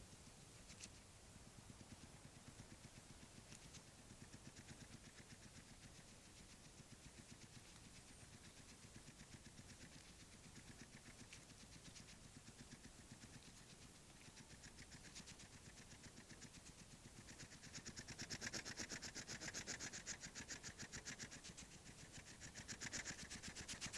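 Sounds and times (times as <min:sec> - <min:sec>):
hedgehog sniffing: 0:00.0 - 0:23.9.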